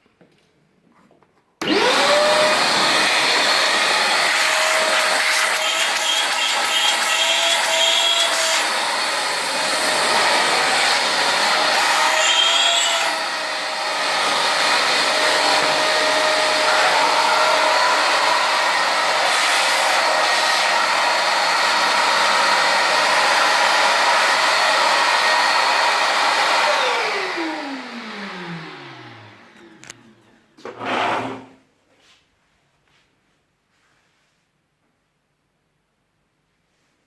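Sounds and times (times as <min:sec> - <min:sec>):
vacuum cleaner running: 0:01.6 - 0:31.5.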